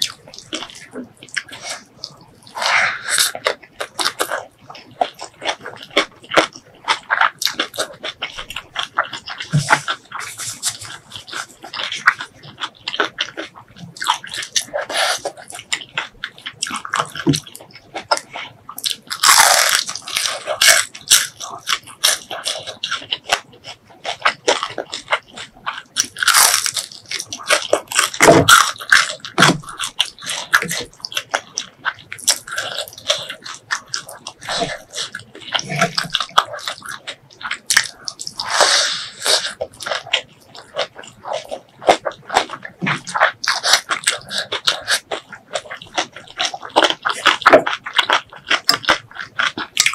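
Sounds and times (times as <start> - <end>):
crisp fried fish crunching: 0.0 - 49.9
wet chewing with mouth clicks: 0.0 - 49.9.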